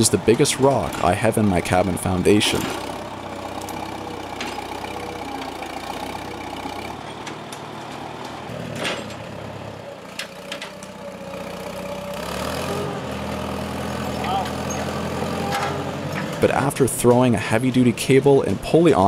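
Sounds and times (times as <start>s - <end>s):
tractor engine straining: 0.0s - 19.0s.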